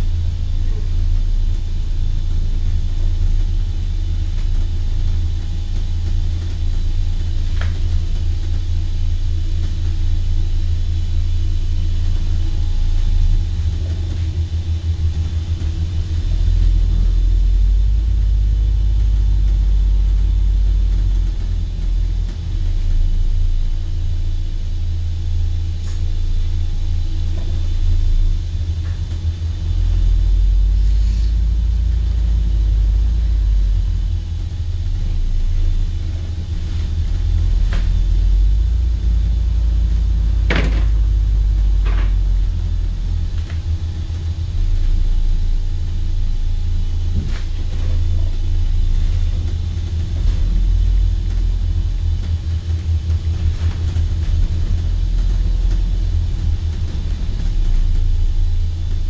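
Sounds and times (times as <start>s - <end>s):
bus rumble from inside: 0.0s - 59.0s.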